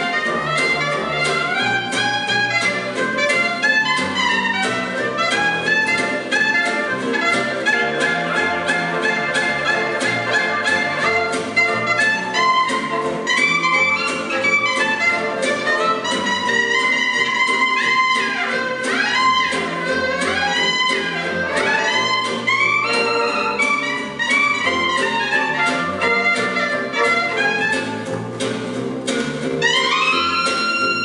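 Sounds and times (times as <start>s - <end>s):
clarinet solo: 0.0s - 28.2s, 29.6s - 31.0s
acoustic rhythm guitar strumming: 0.0s - 31.0s
plucked double bass: 0.0s - 31.0s.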